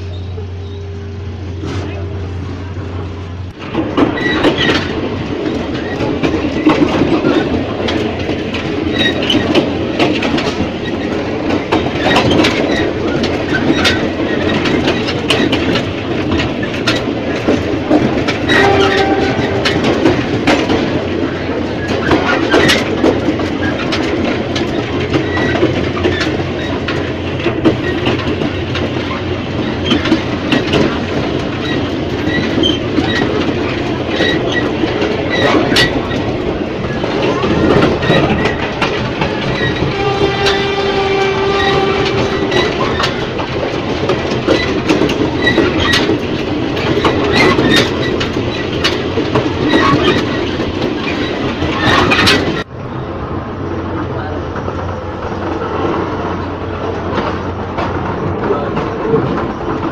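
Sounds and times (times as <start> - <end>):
train running on rails: 0.0 - 59.9
wheels clacking over track: 3.5 - 52.7, 53.7 - 59.9.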